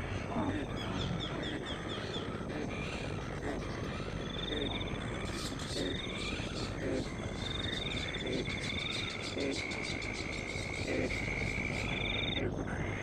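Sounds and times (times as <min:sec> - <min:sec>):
frogs croaking: 0:00.0 - 0:13.0
pulsed insect trill: 0:00.2 - 0:13.0
steady high insect tone: 0:00.2 - 0:13.0.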